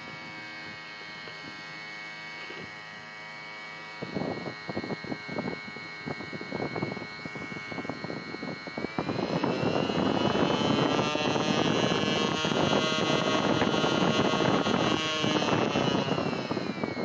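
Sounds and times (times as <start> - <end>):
blower motor whine: 0.0 - 17.0.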